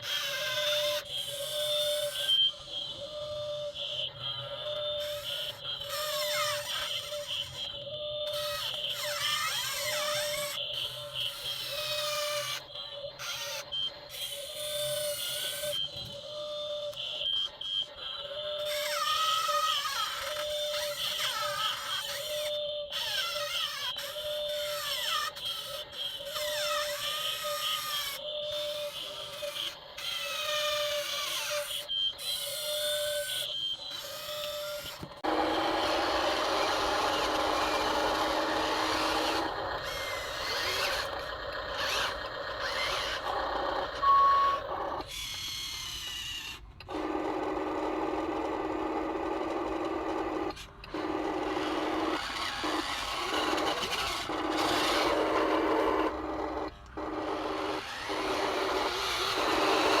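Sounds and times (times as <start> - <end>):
small electric motors whining: 0.0 - 60.0.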